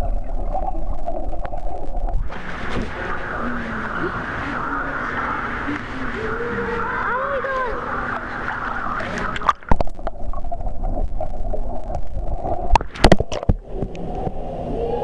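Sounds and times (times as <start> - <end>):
muffled underwater gurgling: 0.0 - 15.0
pool water splashing: 0.0 - 15.0.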